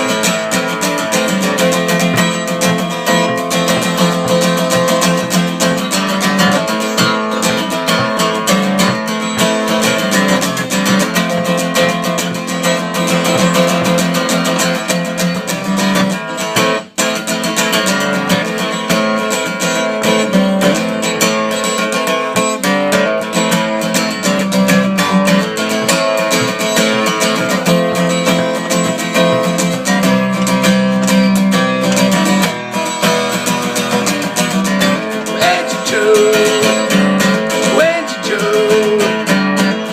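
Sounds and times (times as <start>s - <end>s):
strummed acoustic guitar music: 0.0s - 39.9s.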